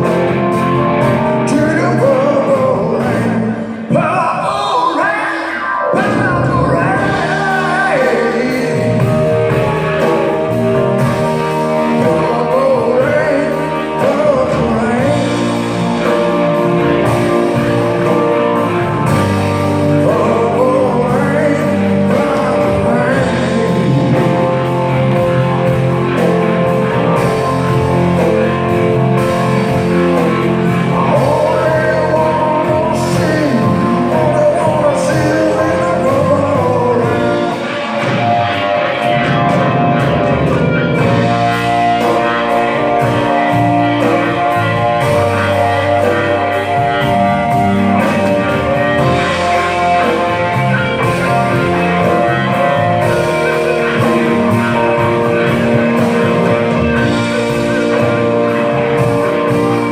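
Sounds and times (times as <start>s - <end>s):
drum kit: 0.0s - 5.0s, 5.8s - 59.9s
electric bass: 0.0s - 59.9s
electric guitar: 0.0s - 59.9s
keyboard: 0.0s - 59.9s
lead vocals: 0.0s - 59.9s.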